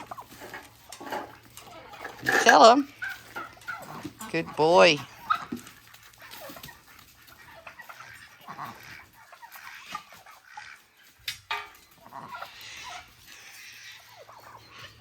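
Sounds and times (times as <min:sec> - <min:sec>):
turkeys calling: 0:00.0 - 0:15.0.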